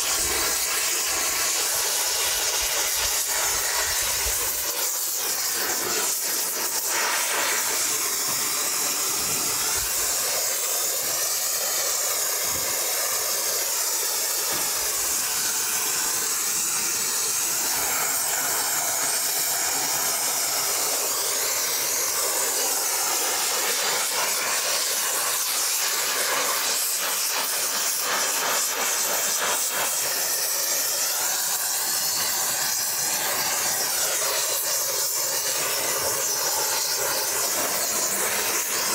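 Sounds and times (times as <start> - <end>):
welding torch flame hissing: 0.0 - 38.9.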